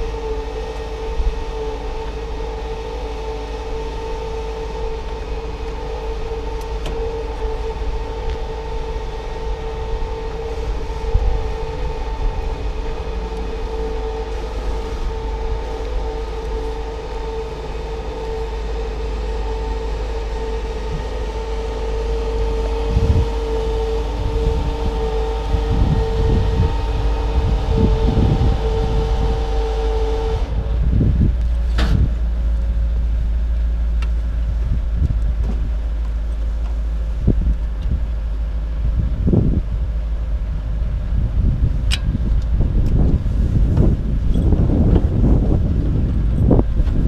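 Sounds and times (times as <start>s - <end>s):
steady hum: 0.0s - 47.0s
wind buffeting microphone: 0.0s - 47.0s.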